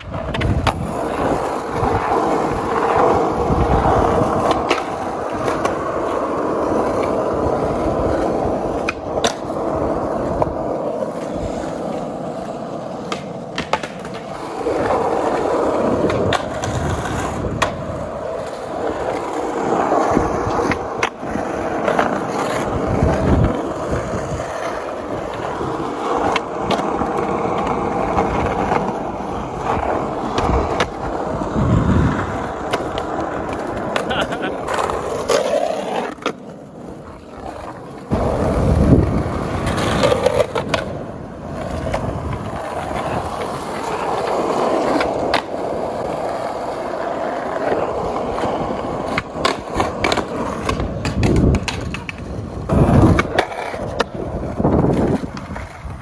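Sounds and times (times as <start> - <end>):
skateboard clacking on ground: 0.0 - 56.0
skateboard wheels rolling on pavement: 0.0 - 56.0.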